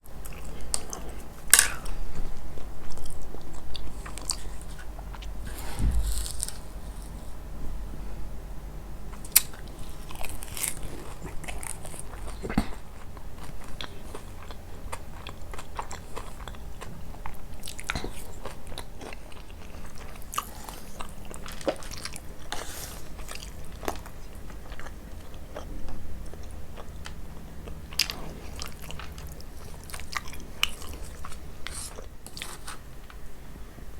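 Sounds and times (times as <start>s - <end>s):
crunchy pastry eating: 0.1s - 7.5s, 9.1s - 33.3s.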